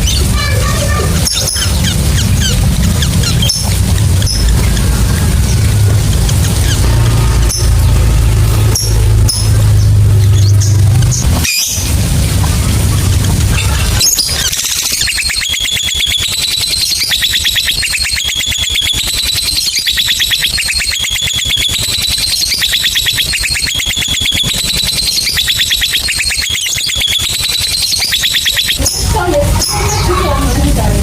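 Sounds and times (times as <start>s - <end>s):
lovebird chattering trill: 0.0s - 30.8s.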